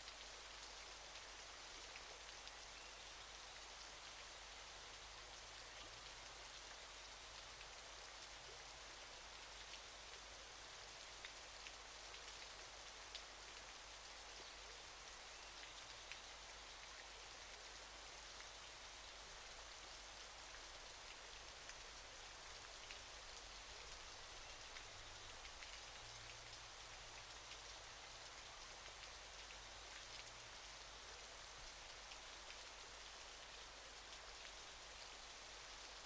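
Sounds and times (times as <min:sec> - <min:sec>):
faint falling water: 0:00.0 - 0:36.0.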